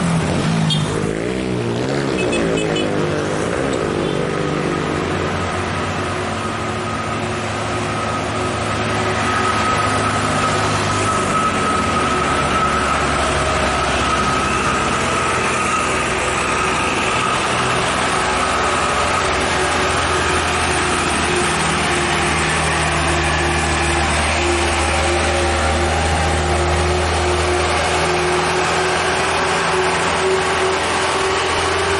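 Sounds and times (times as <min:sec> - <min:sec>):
diesel engine under full throttle: 0:00.0 - 0:31.9
steady whine: 0:03.4 - 0:31.9.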